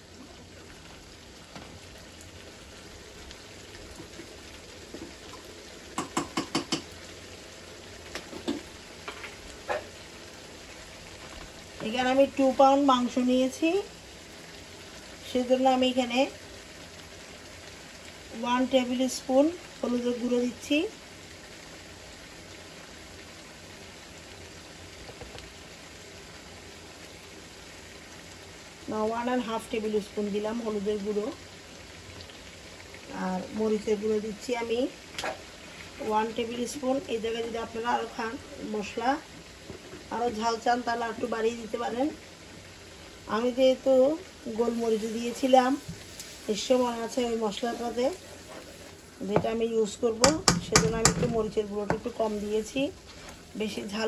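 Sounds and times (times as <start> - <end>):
paste sizzling in oil: 0.0 - 54.0.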